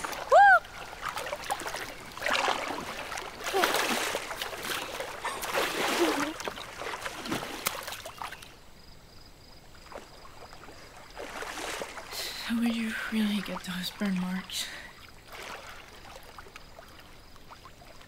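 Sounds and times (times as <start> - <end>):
water splashing around swimmer: 0.0 - 8.6, 9.7 - 18.0
water lapping: 0.0 - 18.0.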